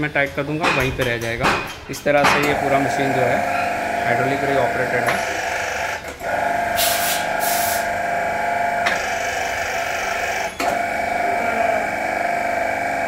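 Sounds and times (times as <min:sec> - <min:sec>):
hydraulic pump whine: 0:02.0 - 0:13.0.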